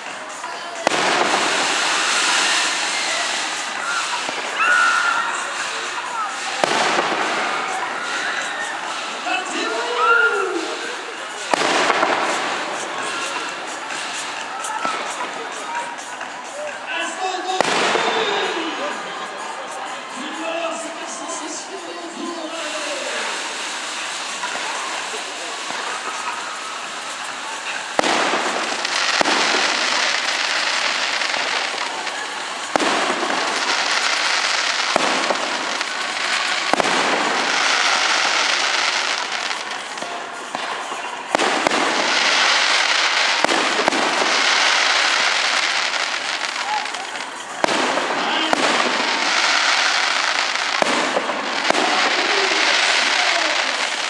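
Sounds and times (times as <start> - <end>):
fireworks bangs: 0.0 - 54.0
fireworks crackling: 0.0 - 54.0.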